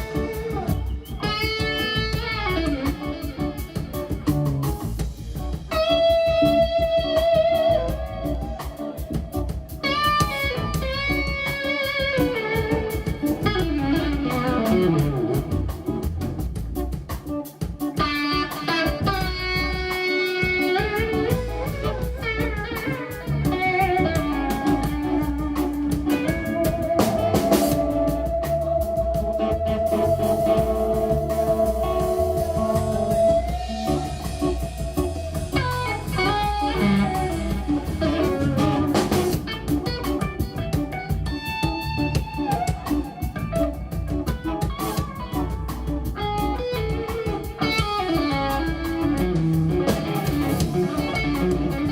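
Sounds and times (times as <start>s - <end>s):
bass guitar: 0.0s - 51.9s
drums: 0.0s - 51.9s
lead electric guitar: 0.0s - 51.9s.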